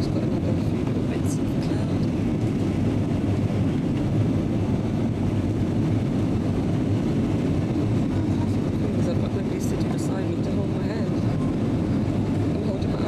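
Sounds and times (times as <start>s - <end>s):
airliner cabin jet engine rush: 0.0s - 13.0s.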